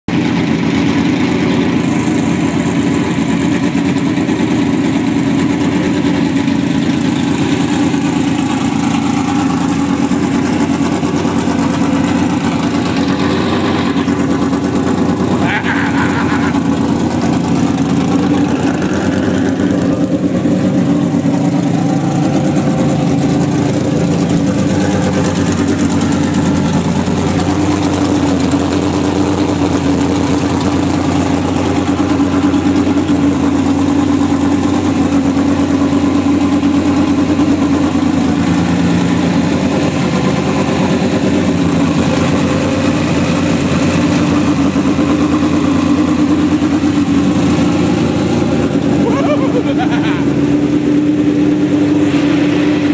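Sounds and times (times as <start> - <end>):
engine idling loudly: 0.0 - 52.9.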